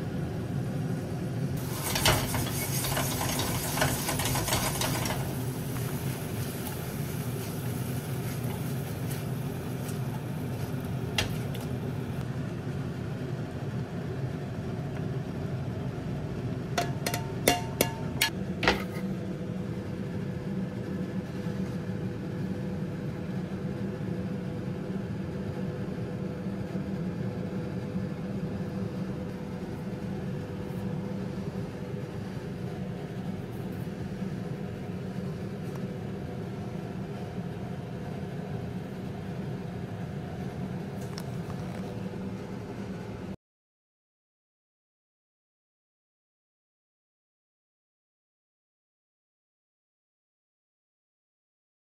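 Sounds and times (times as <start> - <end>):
steady low hum: 0.0 - 43.4.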